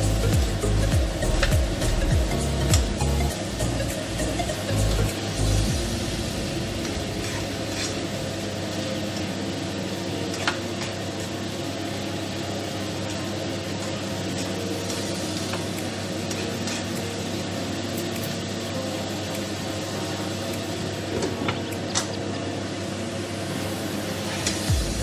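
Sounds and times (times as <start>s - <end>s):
food sizzling in a frying pan: 0.0s - 25.0s
steady low hum: 0.0s - 25.0s.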